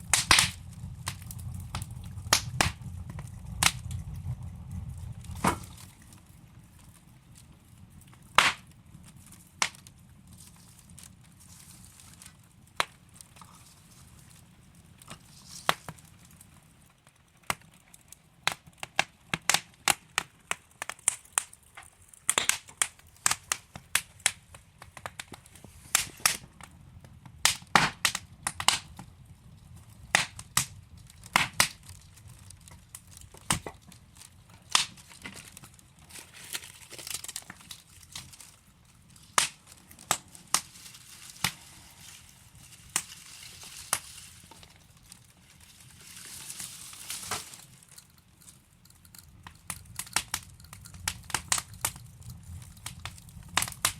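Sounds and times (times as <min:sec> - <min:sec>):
low hiss of fire: 0:00.0 - 0:53.9
wood fire crackling: 0:00.0 - 0:53.9.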